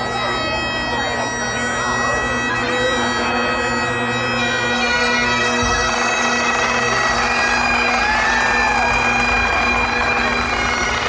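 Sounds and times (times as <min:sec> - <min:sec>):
bagpipes playing: 0:00.0 - 0:11.0.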